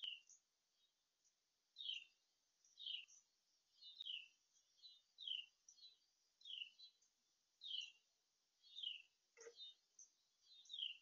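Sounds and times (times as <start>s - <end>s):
low bird chirp: 0.0s - 11.0s.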